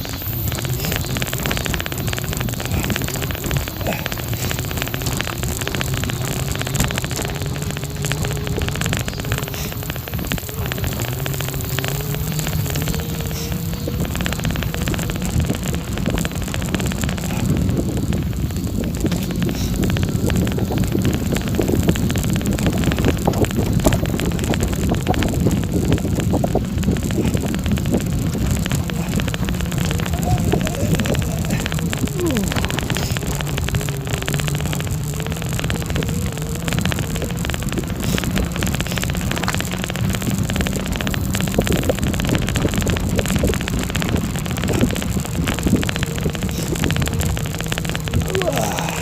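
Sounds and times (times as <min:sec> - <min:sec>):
small clicks and rattles: 0:00.0 - 0:49.0
wind rumbling on microphone: 0:00.0 - 0:49.0.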